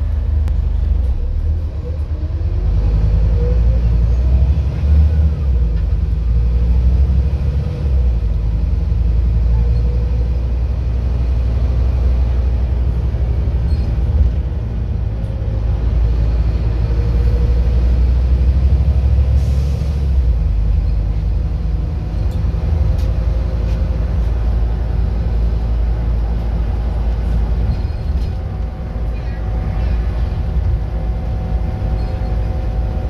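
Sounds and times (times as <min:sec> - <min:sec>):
bus diesel engine rumbling: 0:00.0 - 0:33.0.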